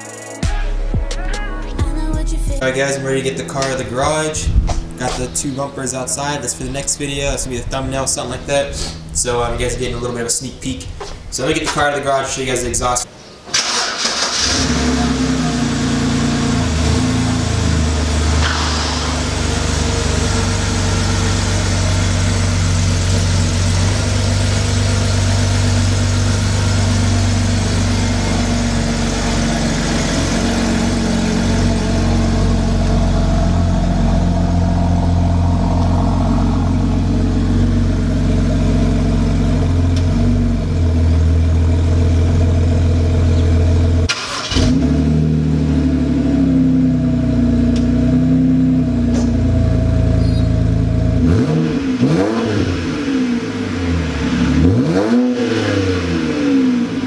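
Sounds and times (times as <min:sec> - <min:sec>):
car engine idling and revving: 0:02.6 - 0:57.0.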